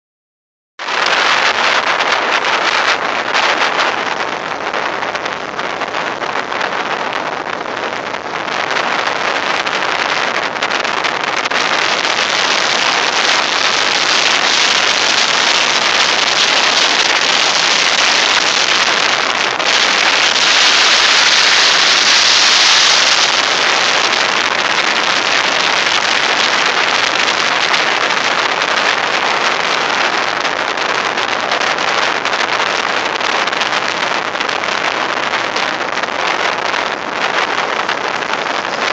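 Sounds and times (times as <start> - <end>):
wind blowing sand: 0.8 - 38.9.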